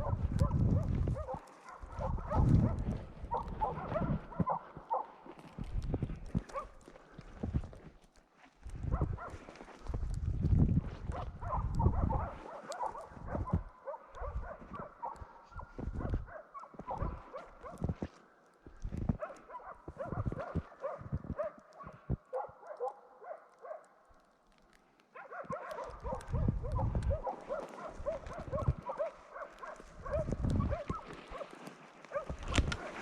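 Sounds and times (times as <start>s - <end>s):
dogs barking in the distance: 0.0s - 7.7s, 8.7s - 10.2s, 10.8s - 33.0s.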